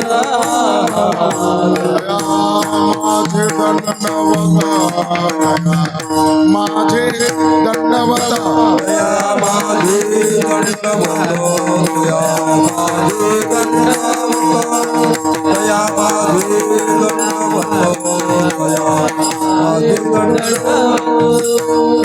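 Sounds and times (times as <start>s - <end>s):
people singing: 0.0s - 22.0s
tabla: 0.0s - 22.0s.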